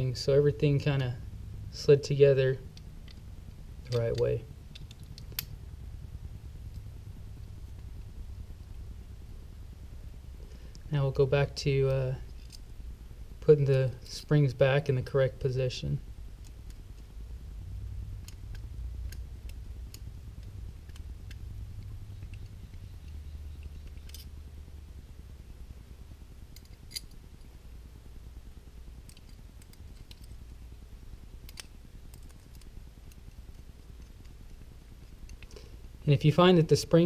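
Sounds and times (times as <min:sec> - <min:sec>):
low steady rumble: 0:00.0 - 0:37.0.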